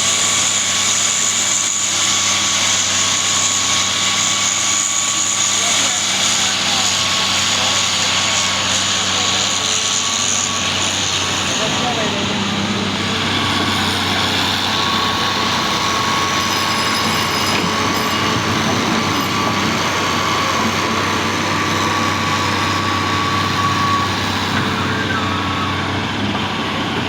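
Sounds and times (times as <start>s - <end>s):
heavy construction machinery running: 0.0s - 27.0s.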